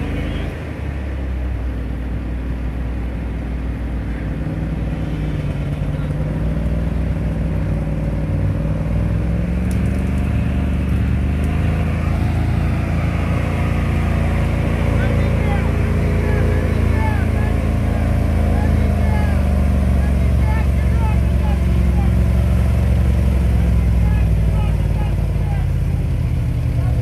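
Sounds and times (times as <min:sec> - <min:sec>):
truck engine running: 0:00.0 - 0:27.0.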